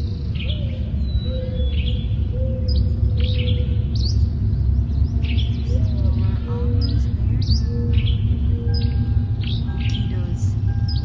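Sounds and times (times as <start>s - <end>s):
birds chirping: 0.0s - 11.0s
vehicle driving rumble: 0.0s - 11.0s.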